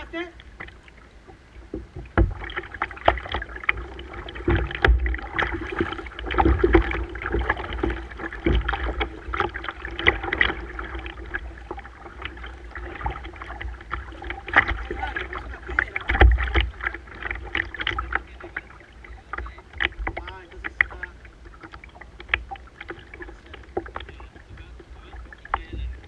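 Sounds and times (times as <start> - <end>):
steady low rumble: 0.0 - 26.0
water splashing around kayak: 0.0 - 26.0.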